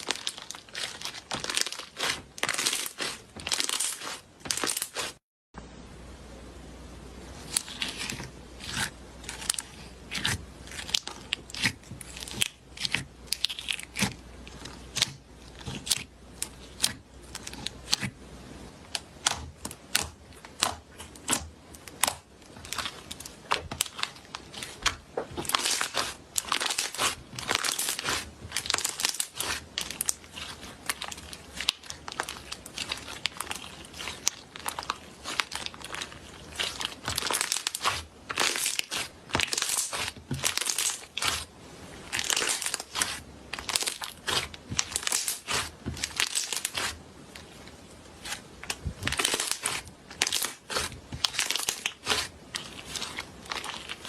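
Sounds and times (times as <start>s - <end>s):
slime popping and crackling: 0.0s - 5.2s, 7.5s - 18.1s, 18.9s - 41.5s, 42.1s - 47.6s, 48.2s - 54.0s.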